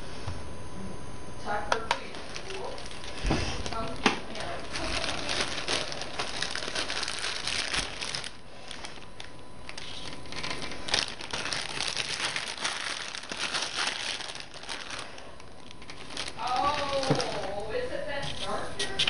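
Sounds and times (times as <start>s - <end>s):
paper crinkling and rustling: 2.0s - 19.0s.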